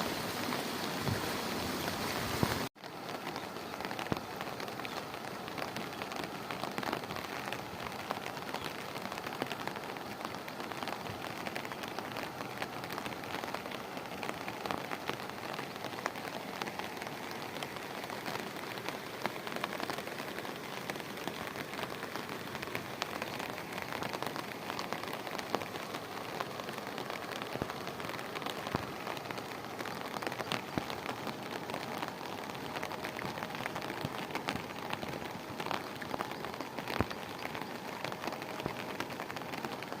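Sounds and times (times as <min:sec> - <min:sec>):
heavy rain on hard surfaces: 0:00.0 - 0:40.0.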